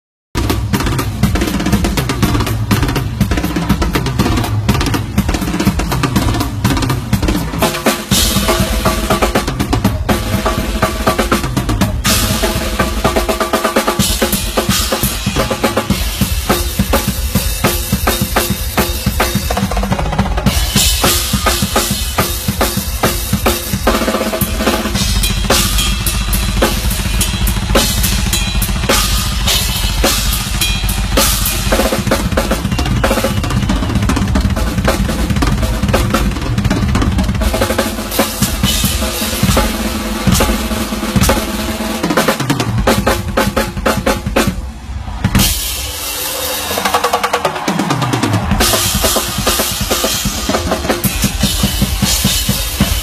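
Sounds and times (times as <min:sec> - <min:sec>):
snare drum rolls: 0:00.4 - 0:53.0.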